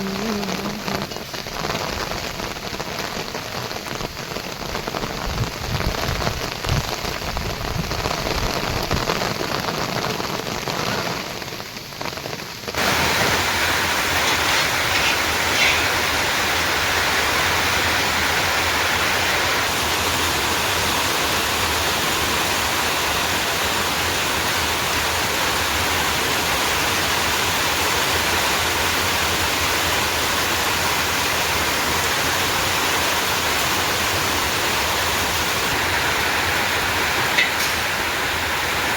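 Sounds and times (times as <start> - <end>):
heavy rain hiss: 0.0 - 38.9
raindrops pattering on surface: 0.0 - 38.9.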